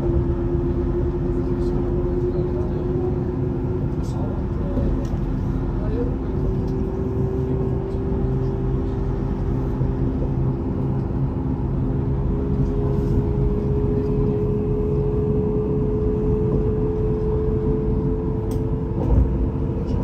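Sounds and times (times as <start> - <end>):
electric train rumble and whine: 0.0 - 20.0.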